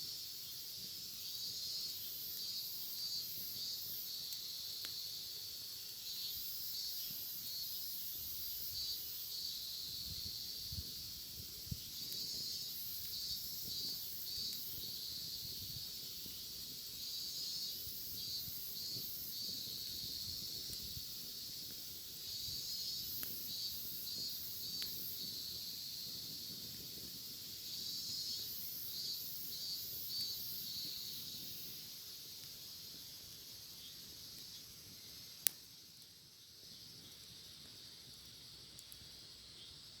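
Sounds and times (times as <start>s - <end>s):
campfire crackles: 0.0s - 40.0s
cicadas buzzing: 0.0s - 40.0s.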